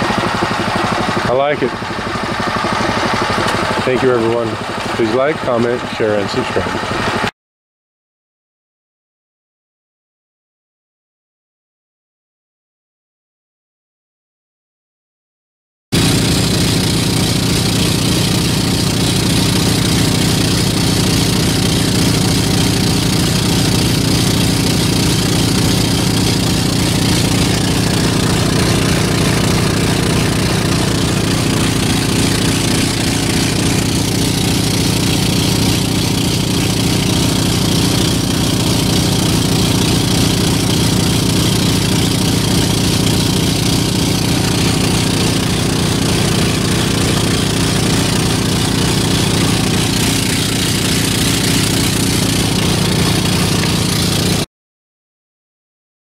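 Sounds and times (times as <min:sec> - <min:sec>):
boat engine at full throttle: 0:00.0 - 0:07.3, 0:16.0 - 0:54.5.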